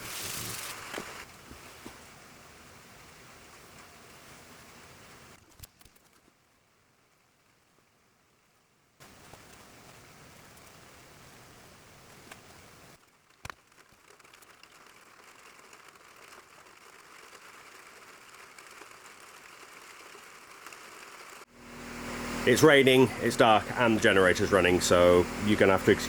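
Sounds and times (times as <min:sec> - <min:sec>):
rain falling: 0:00.0 - 0:05.4, 0:06.4 - 0:26.0.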